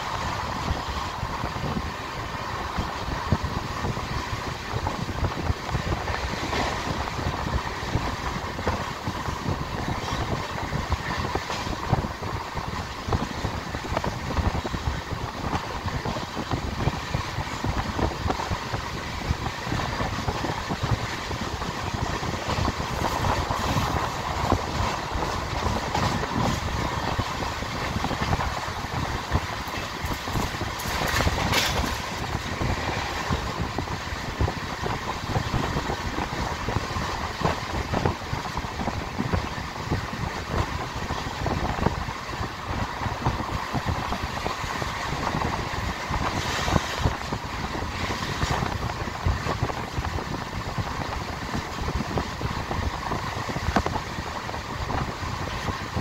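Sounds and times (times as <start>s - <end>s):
track clatter: 0.0s - 56.0s
train wheels rumbling on rail: 0.0s - 56.0s.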